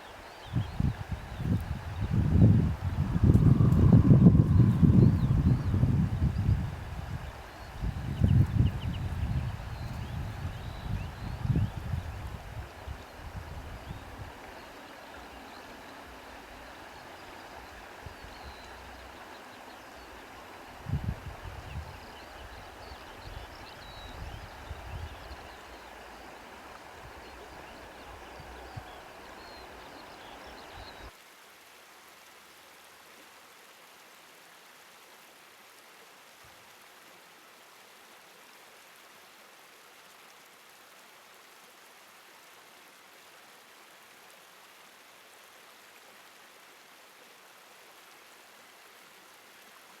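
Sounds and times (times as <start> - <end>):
running water rushing: 0.0 - 50.0.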